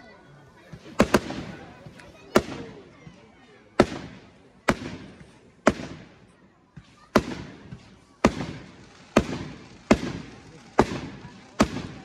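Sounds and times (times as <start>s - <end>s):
fireworks bangs echoing: 0.6s - 12.0s.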